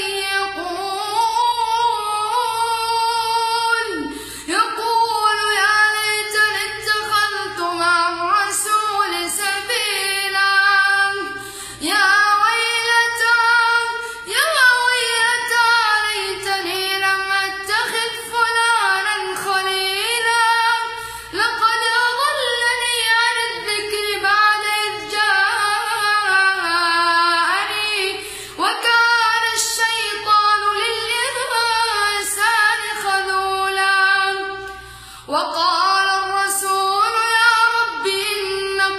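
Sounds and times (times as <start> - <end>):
boy chanting recitation: 0.0 - 38.9.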